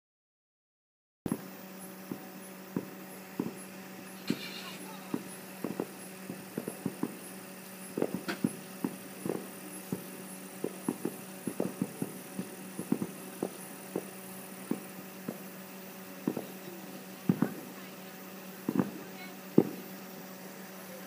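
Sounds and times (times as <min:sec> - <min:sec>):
fireworks pops and bangs: 0:01.3 - 0:20.4
steady low hum: 0:01.3 - 0:21.0.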